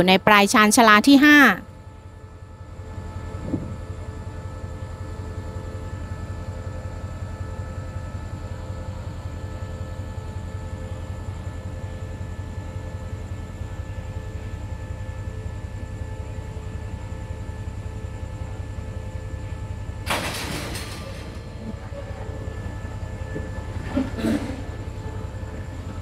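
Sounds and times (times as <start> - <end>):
diesel locomotive idling: 0.0 - 26.0.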